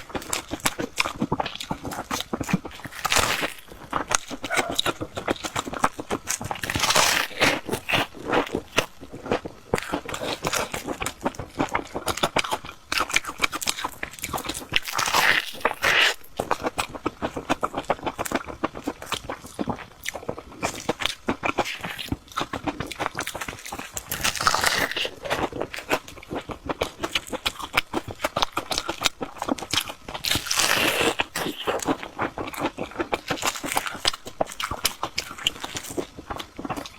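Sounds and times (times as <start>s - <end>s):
crunchy chewing of fried bread: 0.0s - 36.9s.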